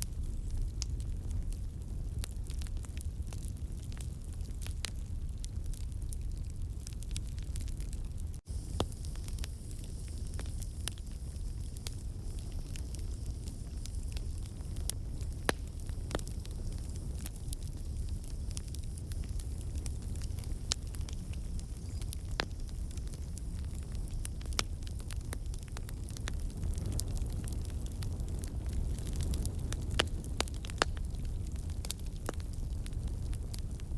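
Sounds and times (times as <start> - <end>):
wood crackling and popping: 0.0 - 33.9.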